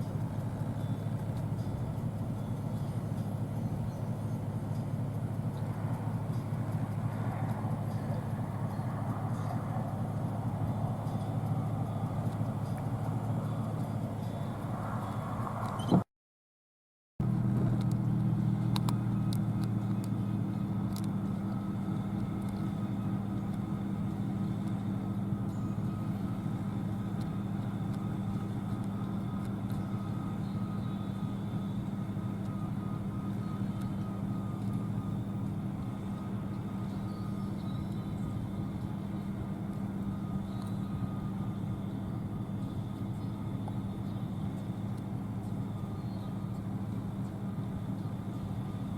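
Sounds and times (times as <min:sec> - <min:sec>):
combine harvester engine drone: 0:00.0 - 0:16.0, 0:17.2 - 0:48.9.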